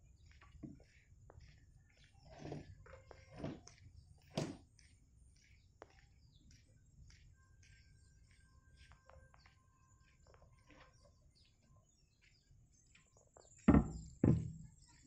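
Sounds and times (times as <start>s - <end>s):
birds chirping faintly: 0.0s - 15.0s.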